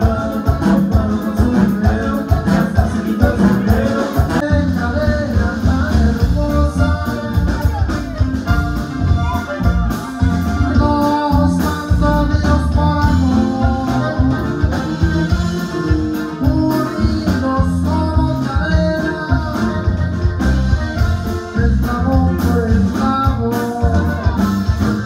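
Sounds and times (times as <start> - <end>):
person singing: 0.0 - 8.3, 10.6 - 14.6, 15.5 - 20.3, 21.3 - 24.9
live band music: 0.0 - 25.0
sousaphone bass line: 0.0 - 25.0.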